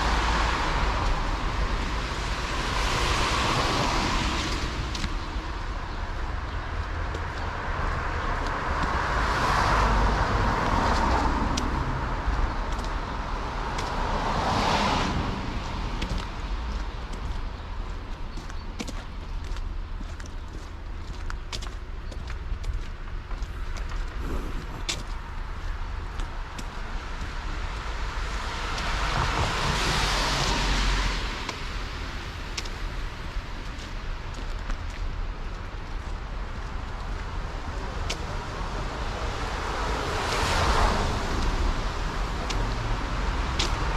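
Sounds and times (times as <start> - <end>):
cars passing close by: 0.0 - 18.1, 23.2 - 34.4, 35.0 - 43.9
traffic rumble: 0.0 - 43.9.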